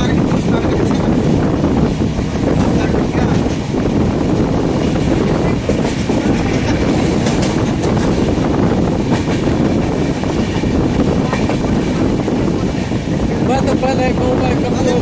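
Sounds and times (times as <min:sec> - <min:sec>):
passenger train rumbling and rattling: 0:00.0 - 0:15.0.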